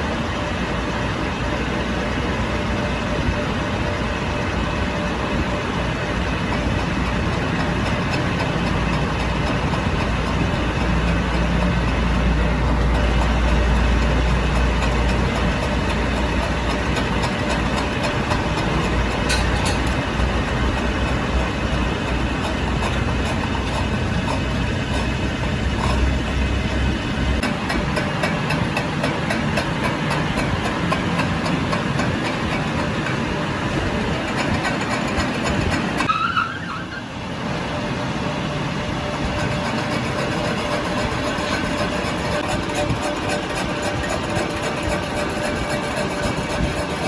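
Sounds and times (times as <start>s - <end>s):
machine running noise: 0.0s - 36.1s, 36.8s - 47.0s.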